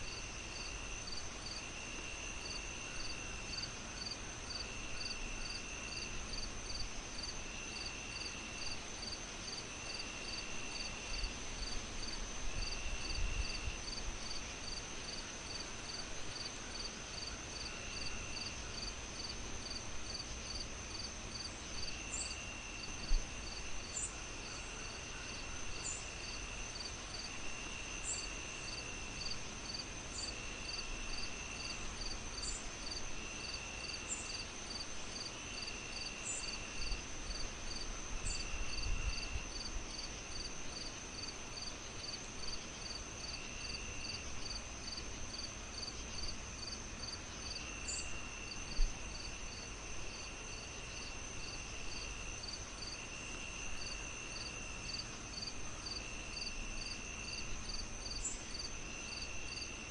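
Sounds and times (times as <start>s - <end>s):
lower cricket trill: 0.0s - 59.9s
pulsing cricket chirps: 0.0s - 59.9s.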